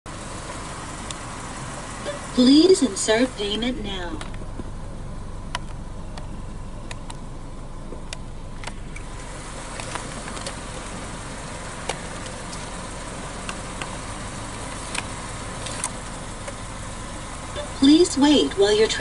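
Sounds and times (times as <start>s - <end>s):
car idling: 0.0s - 19.0s.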